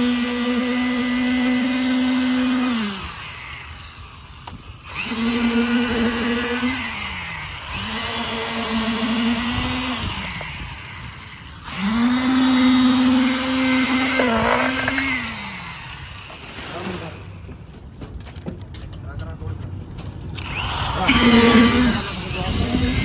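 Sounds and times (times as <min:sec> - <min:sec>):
power tool motor humming: 0:00.0 - 0:17.4, 0:20.4 - 0:23.0.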